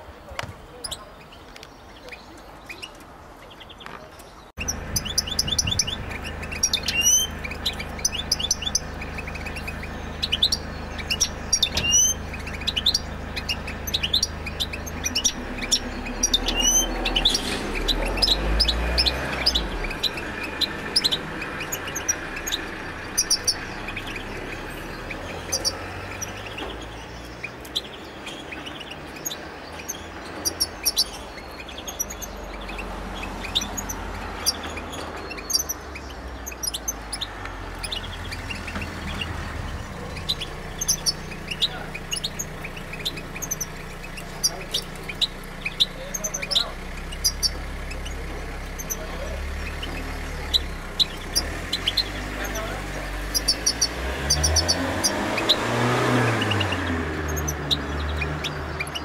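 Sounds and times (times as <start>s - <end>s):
finch twittering song: 0.0s - 59.0s.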